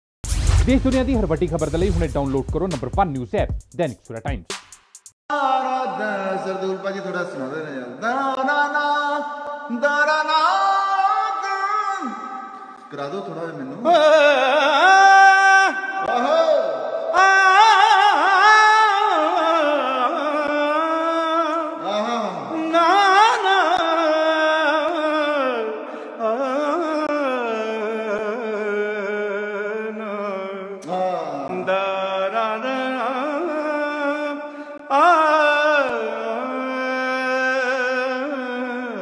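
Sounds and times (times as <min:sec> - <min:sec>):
man singing unaccompanied: 0:05.3 - 0:39.0.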